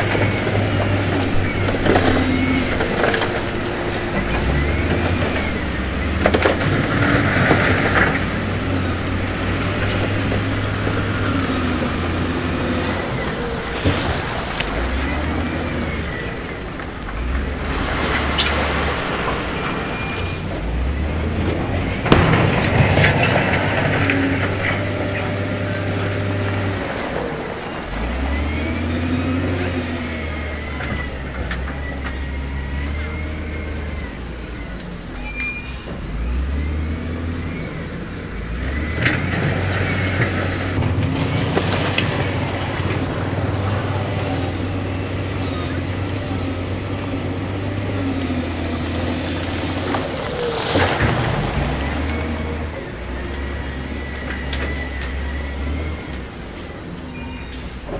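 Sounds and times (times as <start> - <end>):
diesel machinery engine revving: 0.0 - 57.9
squealing moving parts: 0.0 - 57.9.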